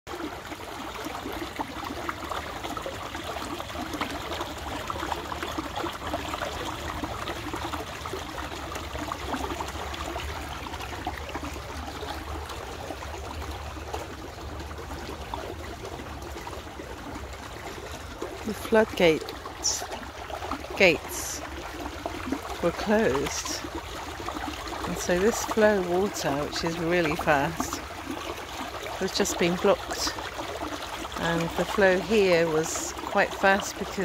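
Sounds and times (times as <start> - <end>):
water rushing through a channel: 0.1 - 34.0.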